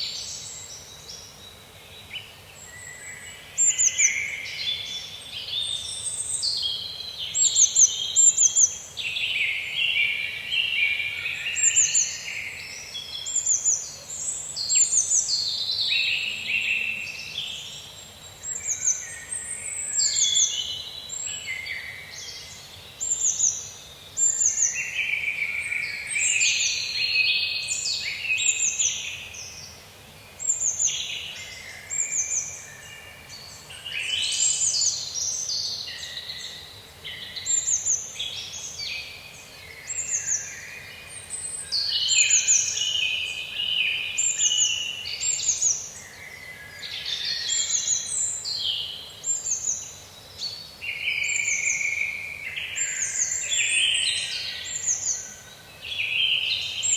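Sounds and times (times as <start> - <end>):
faint background hiss: 0.0 - 56.9.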